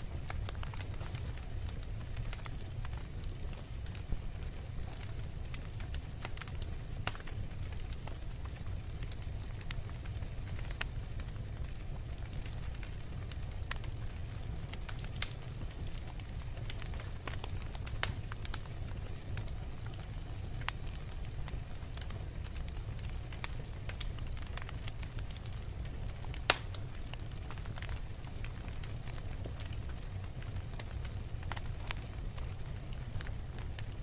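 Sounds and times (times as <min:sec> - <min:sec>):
logs crackling and popping: 0:00.0 - 0:34.0
low rumble of flame: 0:00.0 - 0:34.0.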